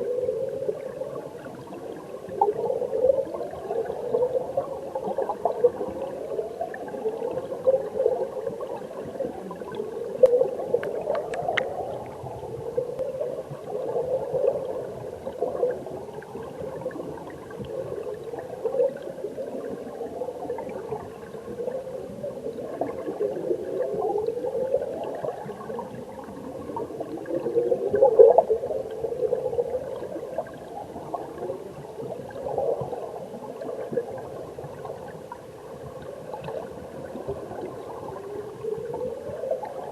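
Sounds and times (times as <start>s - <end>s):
underwater stream gurgle: 0.0s - 39.9s.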